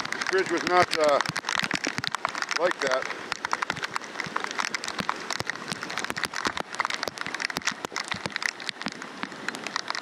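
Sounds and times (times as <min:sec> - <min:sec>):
floodwater rushing: 0:00.0 - 0:10.0
heavy rain pattering: 0:00.0 - 0:10.0.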